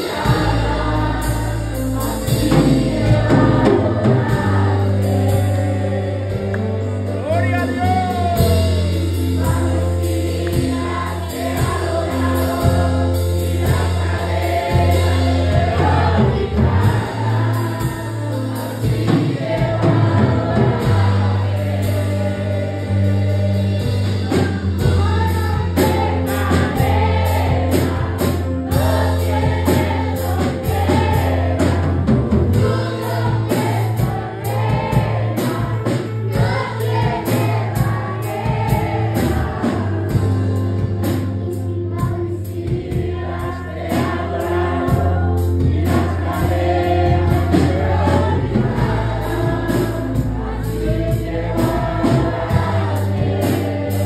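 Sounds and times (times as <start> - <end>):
girls singing into microphones: 0.0 - 6.8, 8.6 - 54.0
instrumental accompaniment with bass: 0.0 - 54.0.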